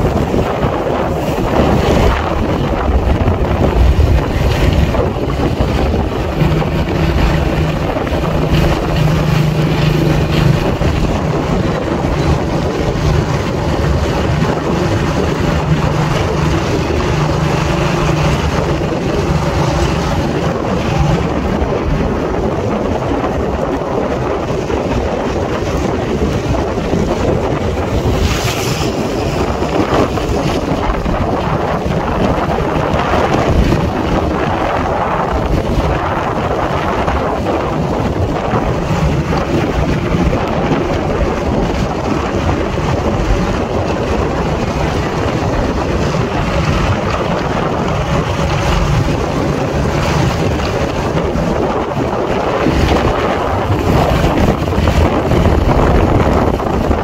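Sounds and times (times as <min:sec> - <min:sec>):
motorcycle engine humming: 0:00.0 - 0:57.0
wind buffeting microphone: 0:00.0 - 0:57.0.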